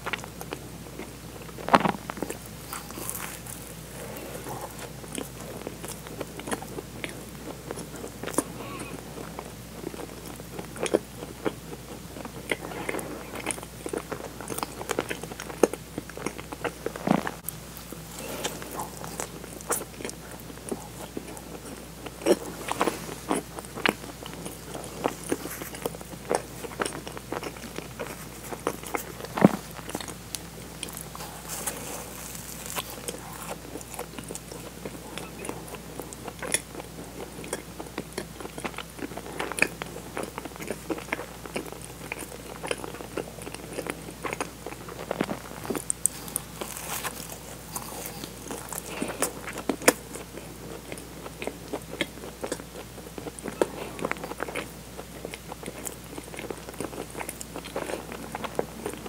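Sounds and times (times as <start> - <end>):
chewing doughnut: 0.0 - 59.0.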